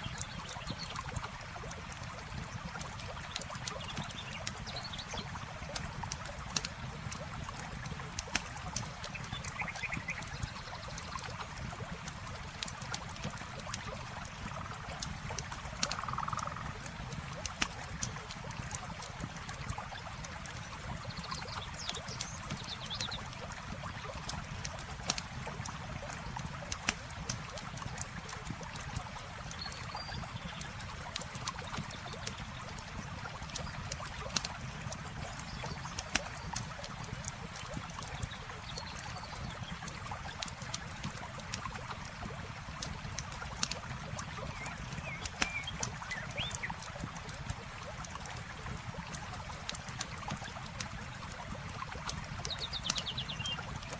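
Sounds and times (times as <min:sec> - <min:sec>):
river water running: 0:00.0 - 0:53.9
campfire crackling and popping: 0:00.1 - 0:53.9.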